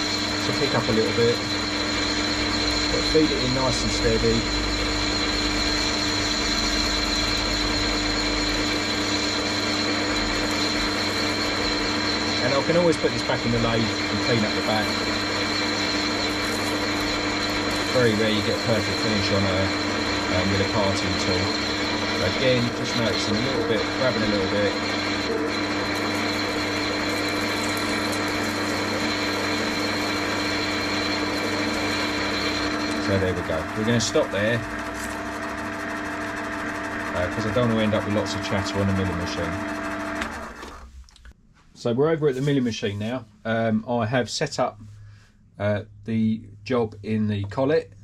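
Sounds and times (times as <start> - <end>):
high whine of cutting tool: 0.0 - 40.9
metal lathe motor hum: 0.0 - 40.9.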